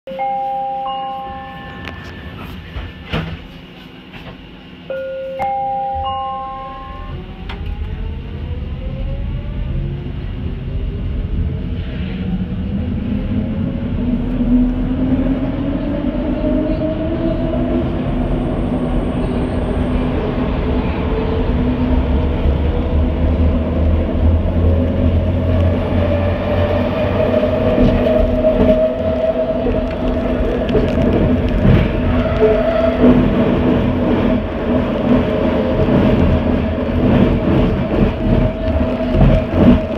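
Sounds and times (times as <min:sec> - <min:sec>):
train propulsion whine: 0:00.1 - 0:39.9
train wheels rumbling: 0:07.0 - 0:39.9.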